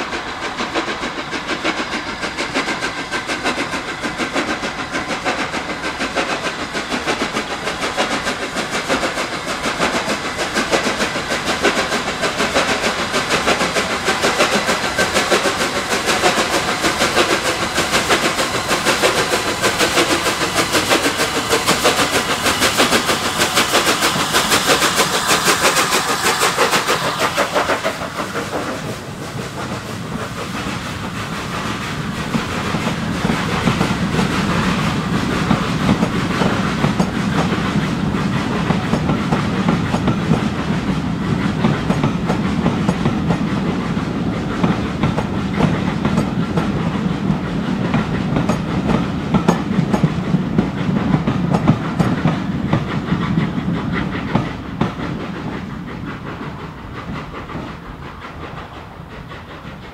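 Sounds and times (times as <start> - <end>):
steam locomotive exhaust beating: 0.0 - 59.9
train coaches rolling by: 0.0 - 59.9.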